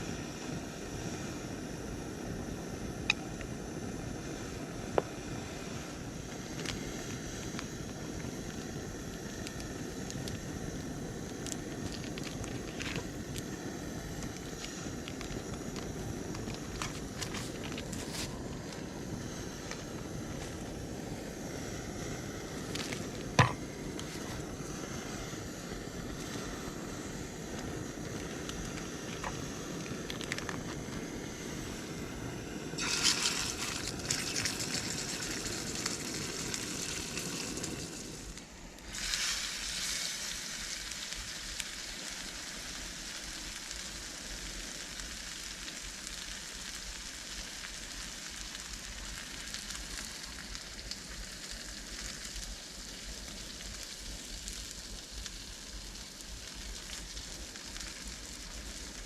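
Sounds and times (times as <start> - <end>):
food sizzling over a campfire: 0.0 - 59.0.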